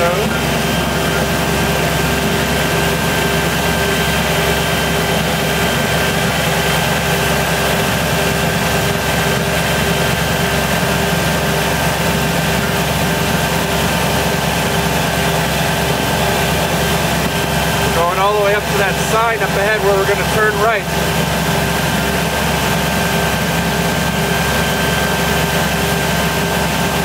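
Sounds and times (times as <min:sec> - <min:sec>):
tractor engine droning: 0:00.0 - 0:27.0.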